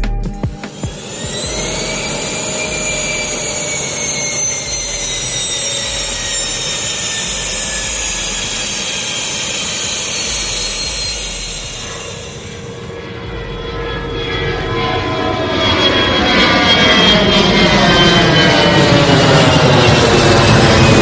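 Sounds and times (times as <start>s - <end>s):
jet engine roaring and whining: 0.0s - 21.0s.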